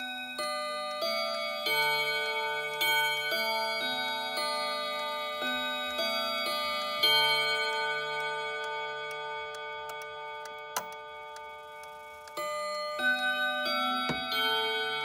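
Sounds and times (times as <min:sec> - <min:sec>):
wall clock chiming: 0:00.0 - 0:15.0
pendulum ticking: 0:00.4 - 0:14.9.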